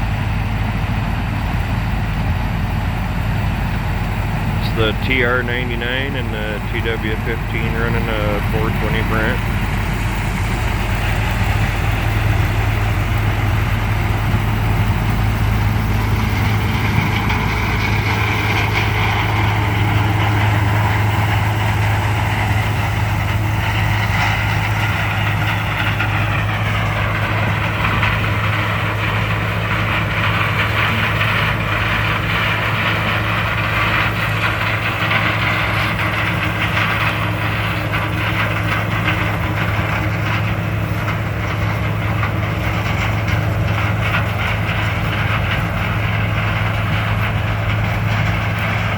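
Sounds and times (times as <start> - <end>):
combine harvester engine drone: 0.0 - 48.9
machinery whine: 0.0 - 48.9.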